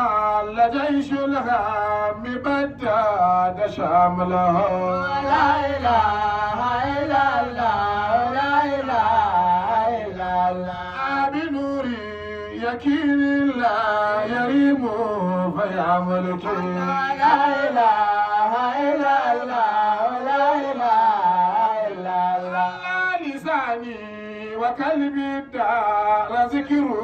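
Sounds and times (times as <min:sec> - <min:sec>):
men chanting through microphones: 0:00.0 - 0:27.0.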